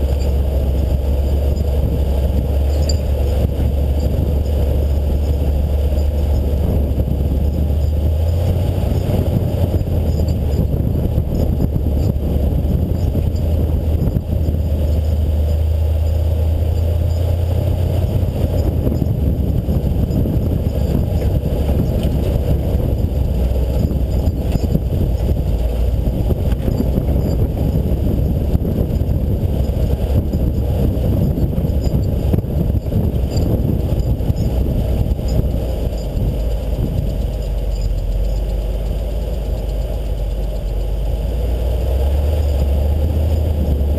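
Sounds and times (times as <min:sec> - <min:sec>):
car engine driving off-road: 0:00.0 - 0:43.9.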